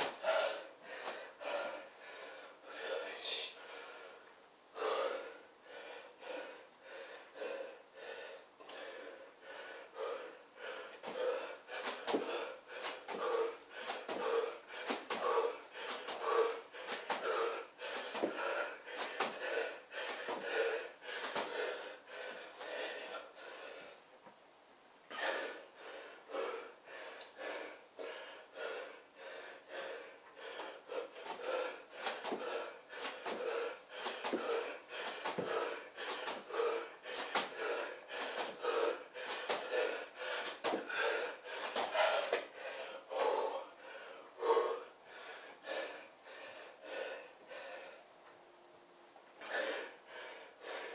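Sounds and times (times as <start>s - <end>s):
man breathing hard: 0.0s - 24.3s, 25.0s - 48.2s, 49.4s - 50.9s.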